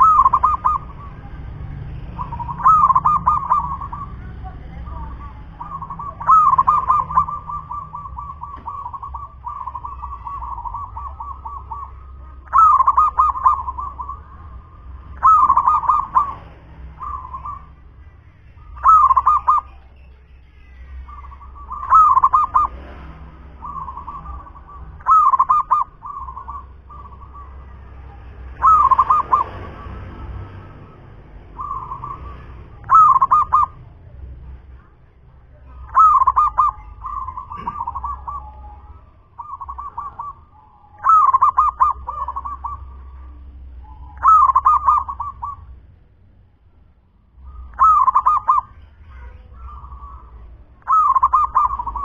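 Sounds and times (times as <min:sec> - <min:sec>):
dove cooing: 0:00.0 - 0:17.9, 0:18.6 - 0:20.0, 0:20.7 - 0:34.0, 0:35.7 - 0:45.8, 0:47.4 - 0:52.0.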